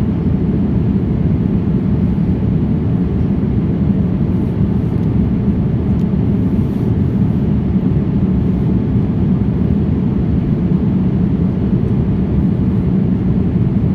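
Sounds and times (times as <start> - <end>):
airliner cabin engine rumble: 0.0 - 13.9.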